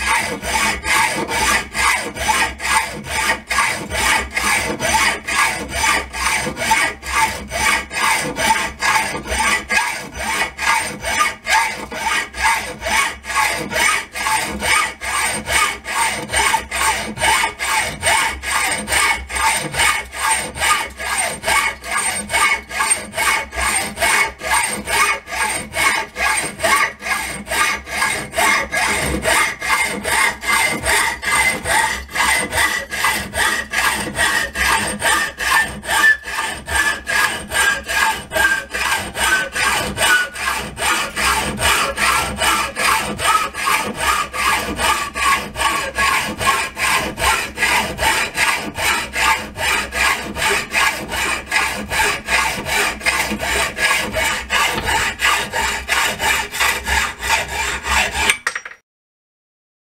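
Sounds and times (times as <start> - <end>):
hacksaw cutting steel: 0.0 - 58.8.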